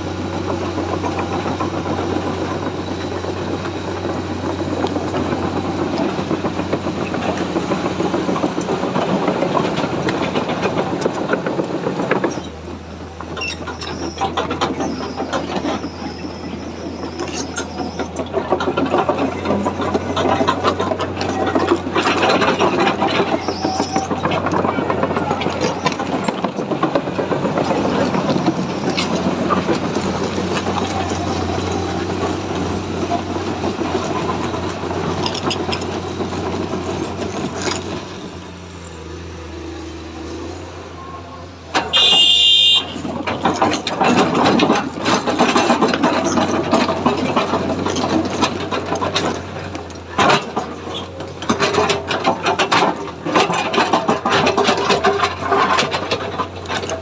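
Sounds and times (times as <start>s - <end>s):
knocks and rattles: 0.0s - 40.9s, 41.6s - 57.0s
excavator diesel engine running: 0.0s - 57.0s.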